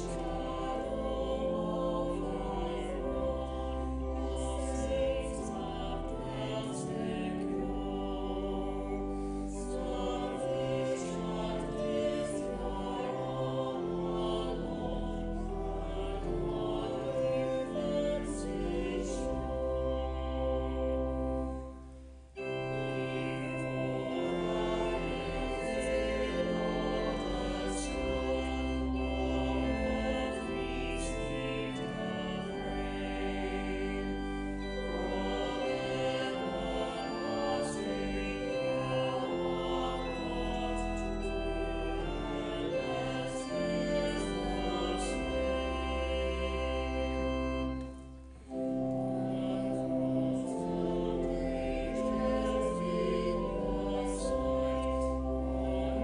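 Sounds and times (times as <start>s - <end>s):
choir singing: 0.0s - 21.8s, 22.4s - 56.0s
organ music: 0.0s - 56.0s.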